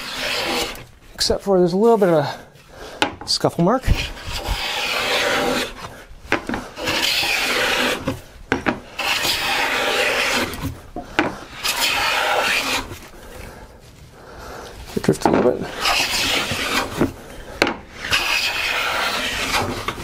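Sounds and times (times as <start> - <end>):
hand plane hissing along wood: 0.0 - 3.0, 3.8 - 13.6, 14.2 - 20.0.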